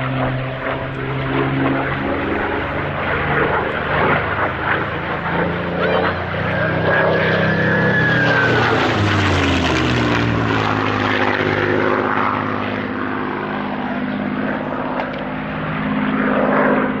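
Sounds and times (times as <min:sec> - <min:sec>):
propeller plane flying past: 0:00.0 - 0:17.0.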